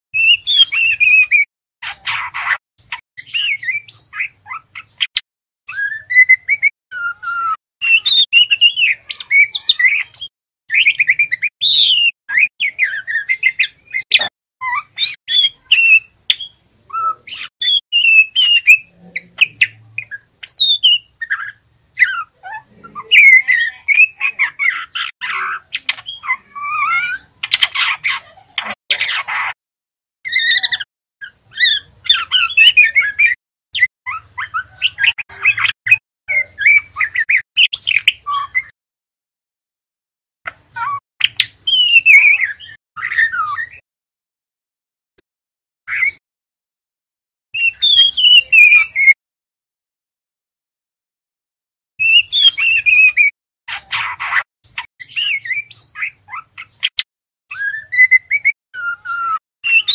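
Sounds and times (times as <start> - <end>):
songbird chirps and warbles: 0.2 - 29.6, 30.3 - 38.8, 40.5 - 43.8, 45.9 - 46.2, 47.6 - 49.2, 52.0 - 59.9.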